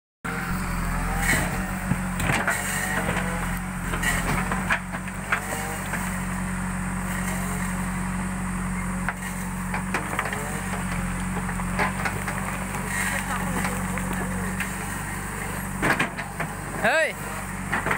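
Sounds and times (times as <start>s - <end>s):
diesel engine running: 0.2s - 17.9s.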